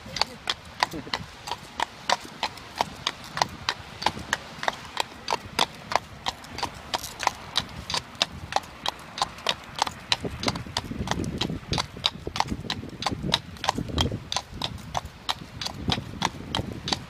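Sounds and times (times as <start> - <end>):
hooves clip-clopping on pavement: 0.0 - 17.0.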